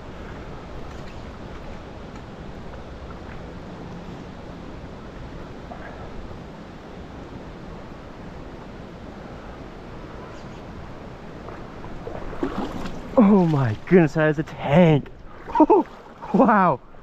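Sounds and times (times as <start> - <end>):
river current rushing: 0.0 - 17.0
wind rumbling on microphone: 0.0 - 17.0.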